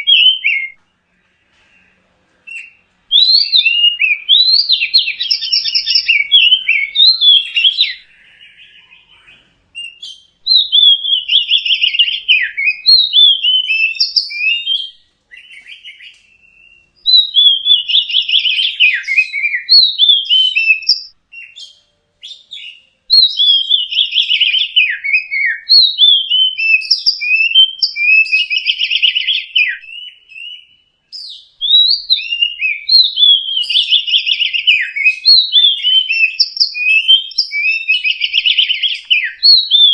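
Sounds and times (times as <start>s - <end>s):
magpie-robin singing whistles: 0.0s - 0.8s, 2.5s - 39.9s.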